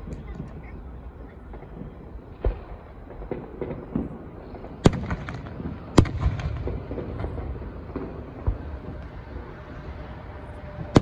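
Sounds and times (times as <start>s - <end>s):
fireworks bangs: 0.0s - 11.0s
fireworks booms: 0.0s - 11.0s.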